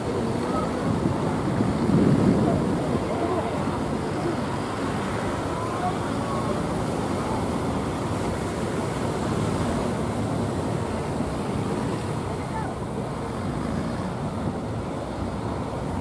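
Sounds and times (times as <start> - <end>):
boat engines running: 0.0 - 16.0.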